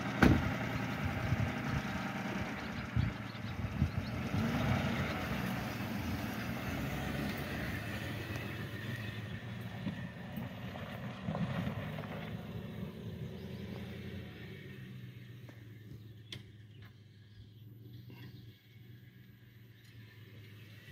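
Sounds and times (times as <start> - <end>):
pickup truck engine driving off: 0.0 - 20.9.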